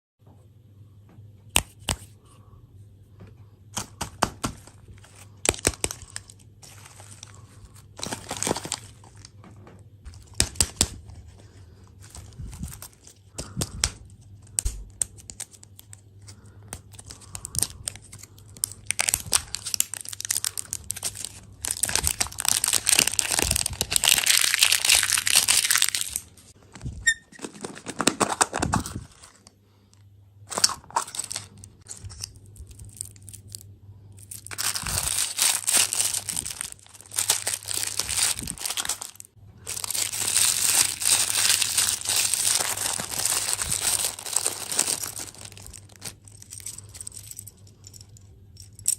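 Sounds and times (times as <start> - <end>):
plastic wrappers crinkling and tearing: 3.8 - 29.5, 30.5 - 48.0.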